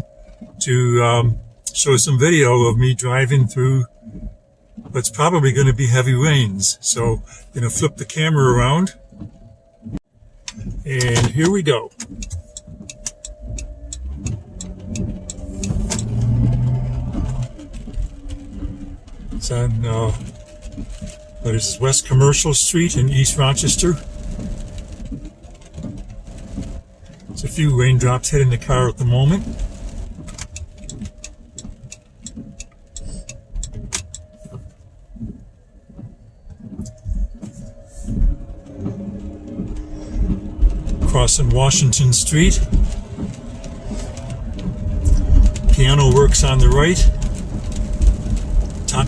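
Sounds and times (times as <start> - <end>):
low engine hum: 0.0 - 49.0
even ticking: 1.2 - 49.0.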